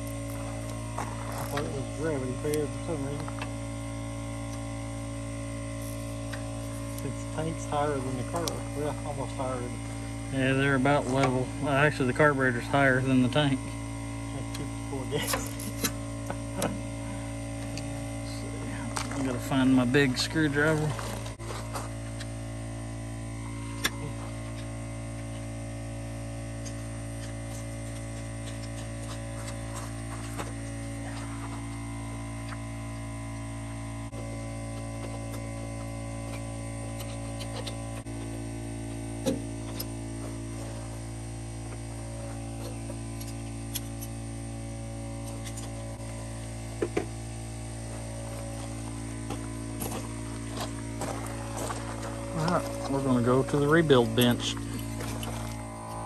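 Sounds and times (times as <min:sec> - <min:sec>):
steady hum of fixed tones: 0:00.0 - 0:56.0.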